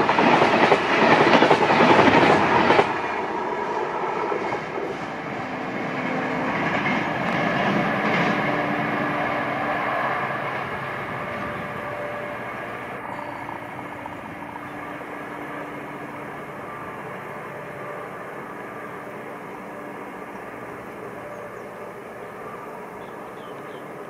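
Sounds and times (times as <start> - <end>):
train wheels rolling on rails: 0.0 - 24.0.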